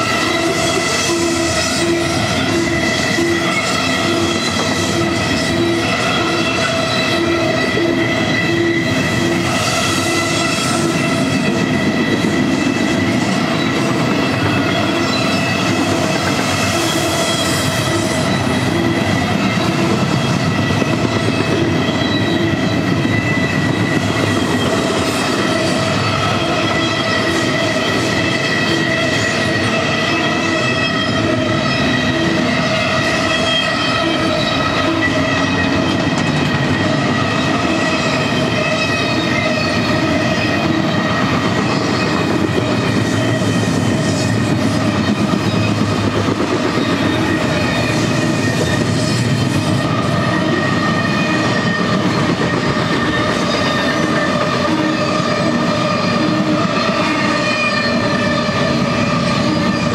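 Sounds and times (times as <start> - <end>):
high squeal from wheels: 0.0 - 59.9
train wheels rumbling on rail: 0.0 - 59.9.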